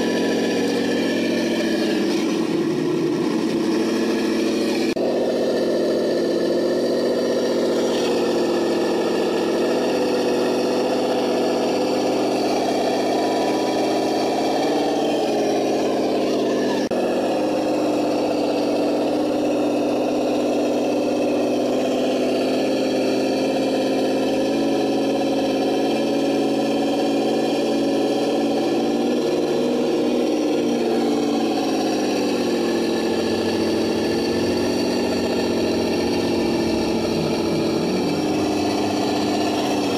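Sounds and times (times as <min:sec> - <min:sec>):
simulated engine idling from speaker: 0:00.0 - 0:26.1, 0:28.5 - 0:39.9.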